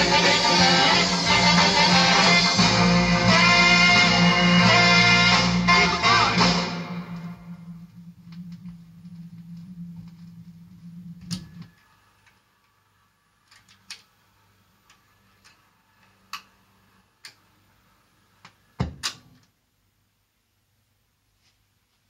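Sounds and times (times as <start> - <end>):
record player hum: 0.0 - 22.0.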